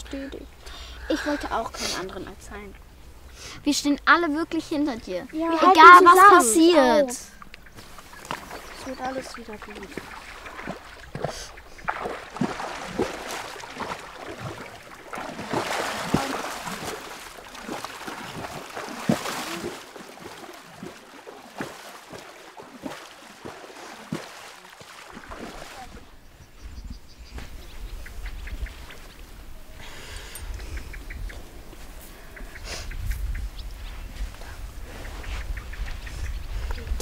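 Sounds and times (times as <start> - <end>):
water splashing and lapping: 0.0 - 37.0.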